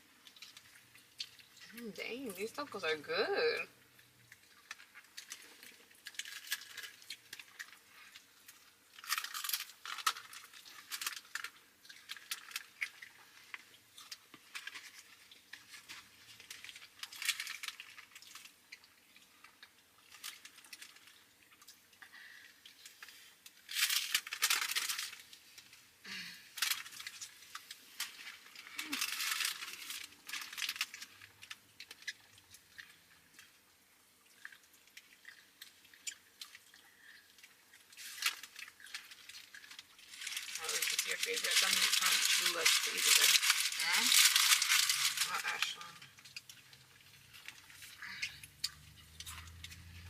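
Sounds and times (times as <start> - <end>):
food being chewed: 0.0 - 1.9, 3.7 - 50.0
paper wrappers rustling: 0.0 - 3.6, 4.4 - 21.8, 22.7 - 33.6, 34.4 - 50.0.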